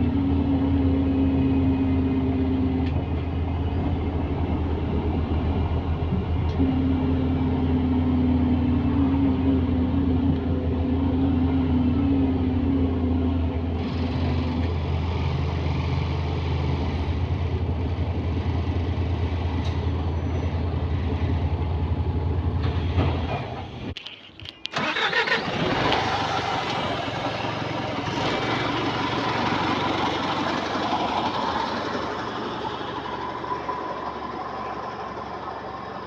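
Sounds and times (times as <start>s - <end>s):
bus engine humming: 0.0s - 36.0s.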